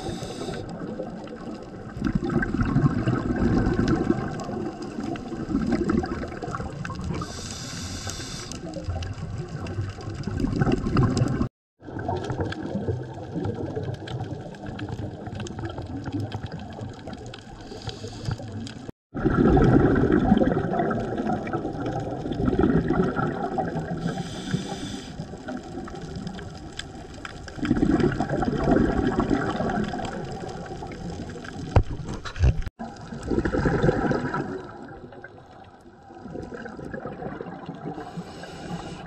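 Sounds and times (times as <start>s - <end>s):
muffled underwater ambience: 0.0s - 31.5s, 33.0s - 39.0s
scuba regulator bubbles: 0.0s - 39.0s.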